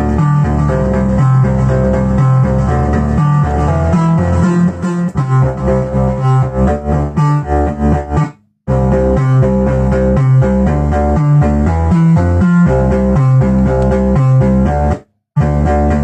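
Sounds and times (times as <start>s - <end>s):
analog synthesizer music: 0.0s - 16.0s.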